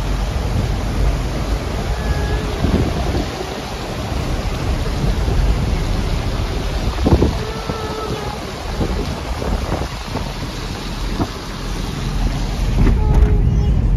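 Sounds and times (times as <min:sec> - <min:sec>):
floodwater rushing: 0:00.0 - 0:13.9
wind buffeting microphone: 0:00.0 - 0:13.9.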